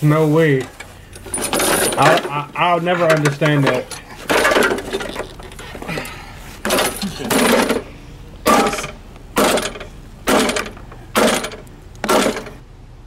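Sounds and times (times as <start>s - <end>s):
lawnmower starter cord pulled: 0.6s - 5.8s, 6.6s - 7.9s, 8.5s - 12.6s.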